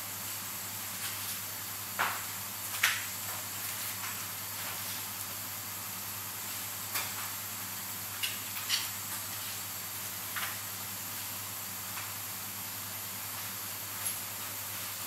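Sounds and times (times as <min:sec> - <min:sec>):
room tone hiss and hum: 0:00.0 - 0:15.0.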